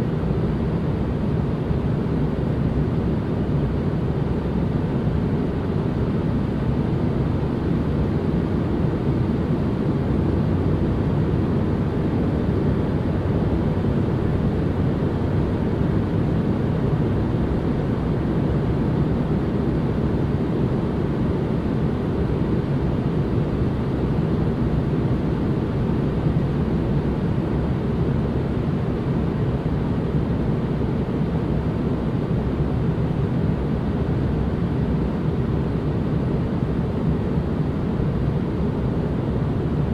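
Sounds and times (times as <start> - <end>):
low rumbling white noise: 0.0 - 39.9.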